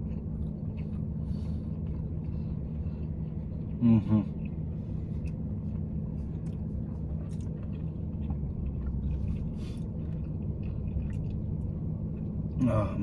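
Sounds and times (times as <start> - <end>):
low hum in car cabin: 0.0 - 13.0
person chewing: 0.0 - 13.0.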